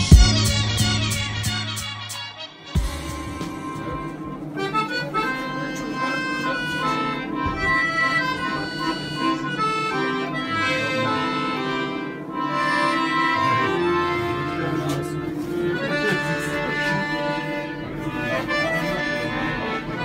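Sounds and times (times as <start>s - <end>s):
accordion playing a tune: 0.0s - 20.0s.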